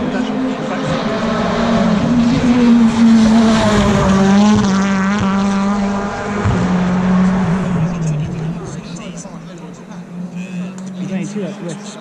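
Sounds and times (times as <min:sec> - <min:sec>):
racing car engines at high revs: 0:00.0 - 0:12.0.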